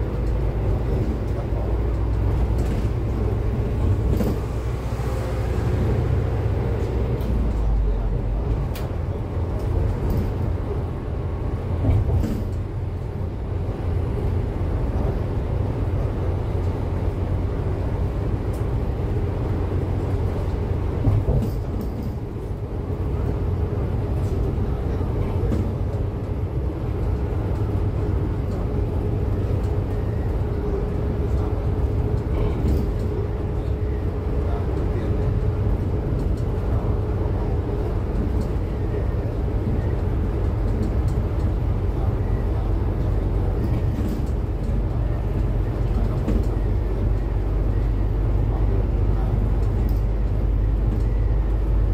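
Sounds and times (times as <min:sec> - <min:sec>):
diesel engine rumble: 0:00.0 - 0:51.9.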